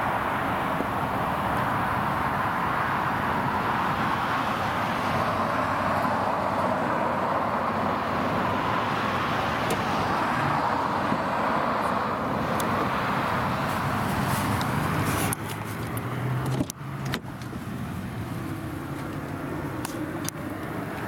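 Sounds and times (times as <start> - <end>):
tyre and road noise: 0.0 - 21.0.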